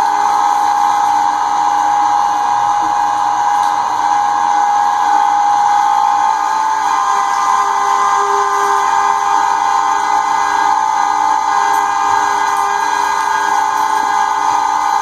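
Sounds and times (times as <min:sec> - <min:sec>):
electric meat grinder whine: 0:00.0 - 0:15.0.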